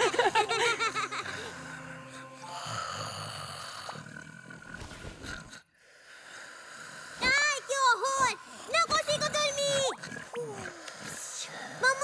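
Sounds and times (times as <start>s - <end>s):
cartoon snoring: 0.9s - 5.6s, 7.0s - 12.0s.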